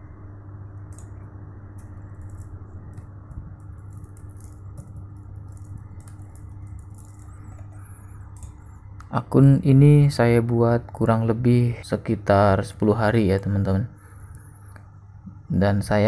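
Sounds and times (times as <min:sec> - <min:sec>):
low electrical hum and hiss: 0:00.0 - 0:16.0.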